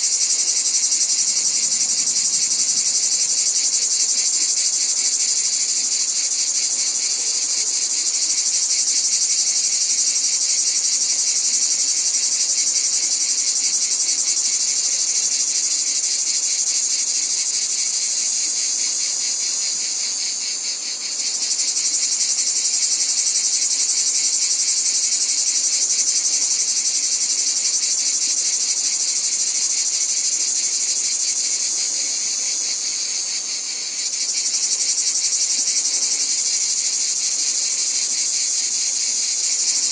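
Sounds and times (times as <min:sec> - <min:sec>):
insects chorus trilling: 0:00.0 - 0:39.9.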